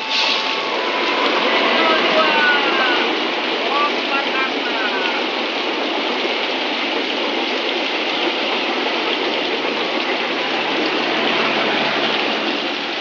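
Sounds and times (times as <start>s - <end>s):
heavy rain: 0.0s - 13.0s
train coaches rolling by: 0.0s - 13.0s.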